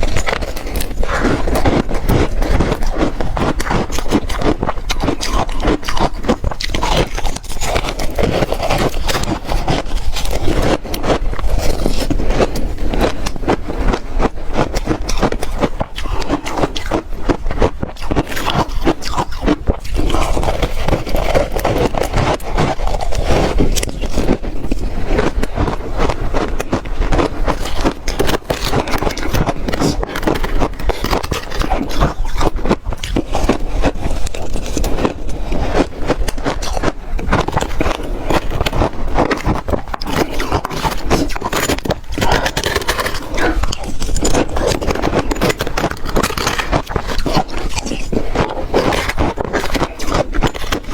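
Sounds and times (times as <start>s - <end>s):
crunching frozen ice cake: 0.0s - 50.9s.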